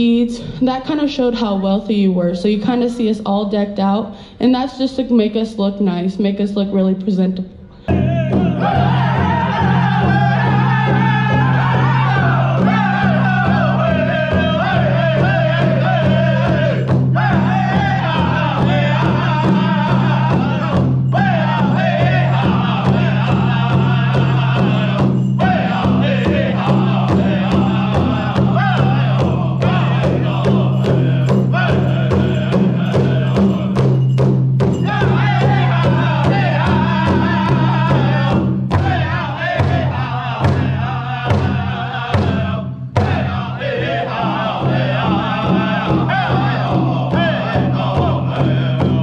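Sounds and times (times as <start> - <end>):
group singing: 7.9 - 49.0
steady drumbeat: 7.9 - 49.0.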